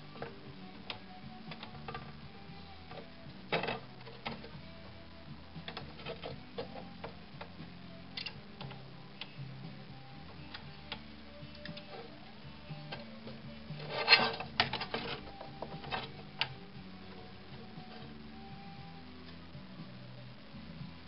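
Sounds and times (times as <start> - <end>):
faint music: 0.0 - 21.0.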